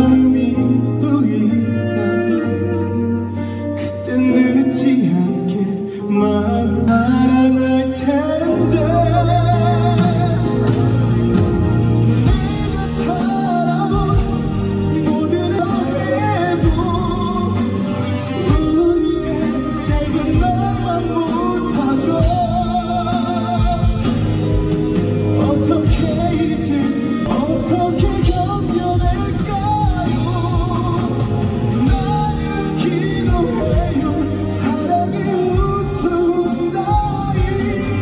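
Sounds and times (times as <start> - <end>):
man singing a ballad: 0.0 - 11.4, 12.1 - 38.0
band accompaniment: 0.0 - 38.0.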